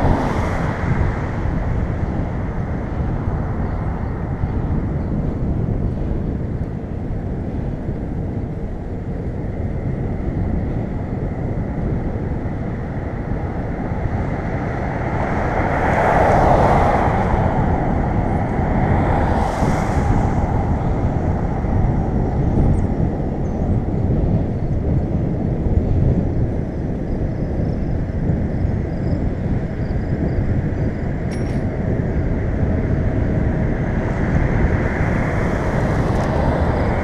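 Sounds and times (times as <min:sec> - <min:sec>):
road traffic passing: 0:00.0 - 0:24.4, 0:28.8 - 0:37.0
wind rumbling on microphone: 0:00.0 - 0:37.0.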